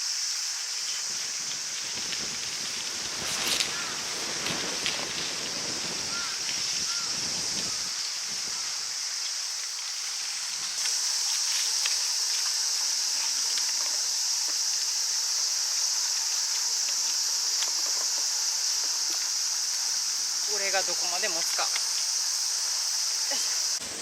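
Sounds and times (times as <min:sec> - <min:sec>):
insects shrilling: 0:00.0 - 0:24.0
garden work clicks and rustles: 0:00.8 - 0:24.0.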